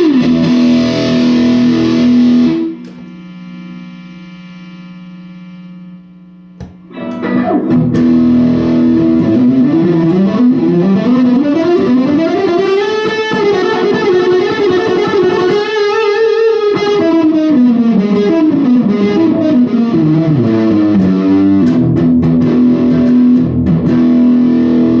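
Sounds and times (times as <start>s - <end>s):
distorted electric guitar: 0.0s - 25.0s.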